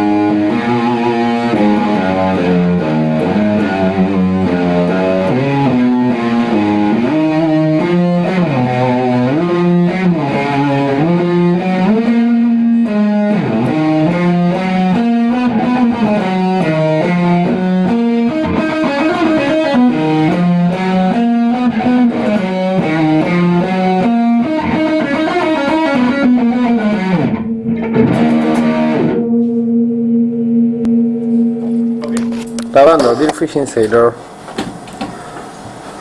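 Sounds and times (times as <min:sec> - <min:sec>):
electric guitar riff: 0:00.0 - 0:33.9.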